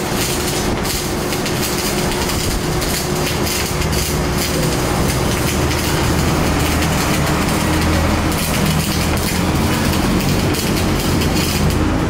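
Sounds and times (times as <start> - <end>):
welding arc crackling and hissing: 0.0 - 12.0.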